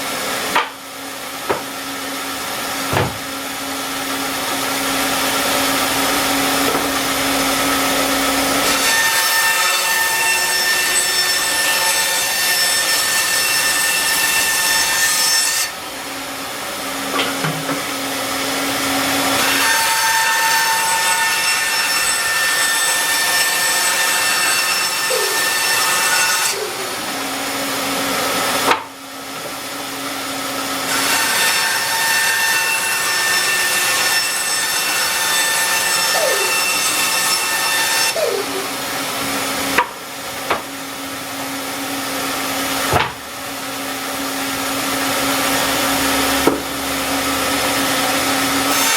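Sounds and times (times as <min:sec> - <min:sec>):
power tool cutting: 0:00.0 - 0:48.9.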